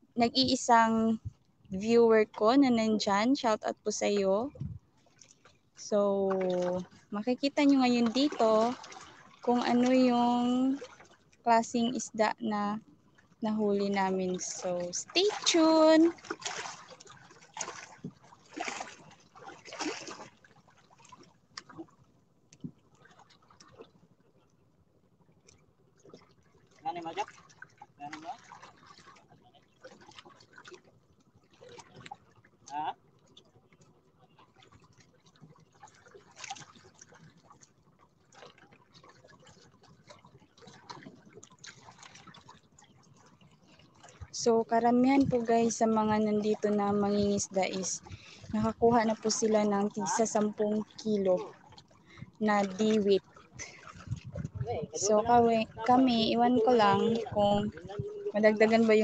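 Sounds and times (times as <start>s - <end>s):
water splashing against boat: 0.0s - 59.0s.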